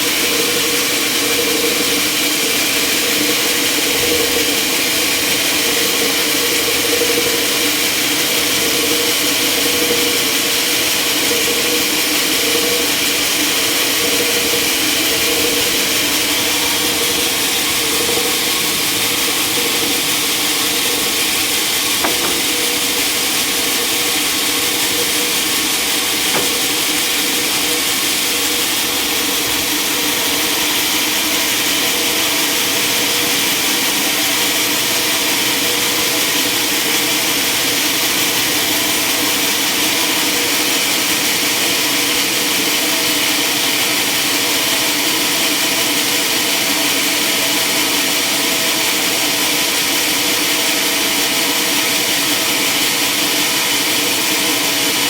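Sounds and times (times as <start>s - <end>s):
sawmill saw cutting timber: 0.0s - 55.0s.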